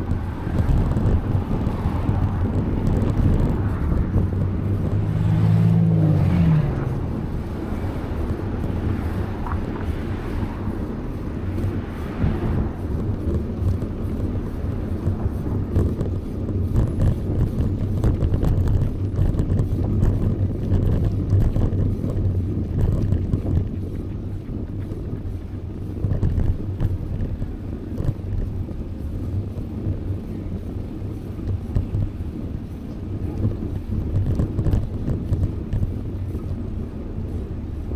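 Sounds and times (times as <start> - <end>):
car passing: 0.0 - 31.8
wind buffeting microphone: 0.0 - 37.9.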